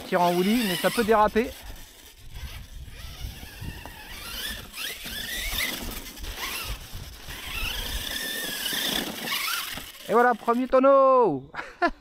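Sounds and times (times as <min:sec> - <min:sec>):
electric motor whining: 0:00.0 - 0:10.8.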